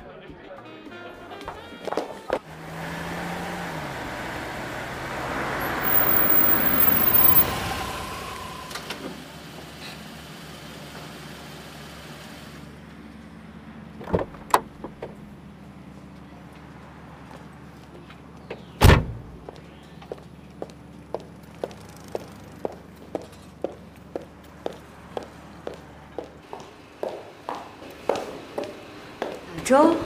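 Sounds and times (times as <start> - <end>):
minivan driving up: 2.4 - 29.6.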